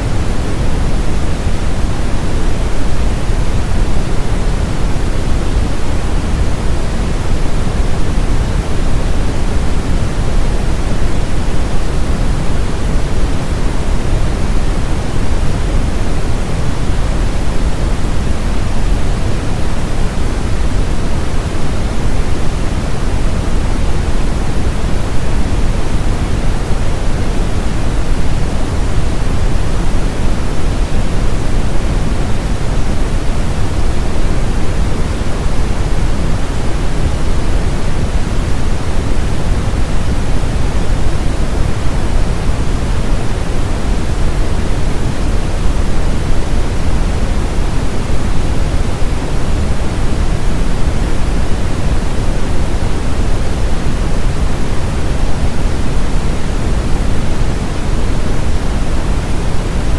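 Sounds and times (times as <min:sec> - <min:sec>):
deep brown noise hiss: 0:00.0 - 0:59.9.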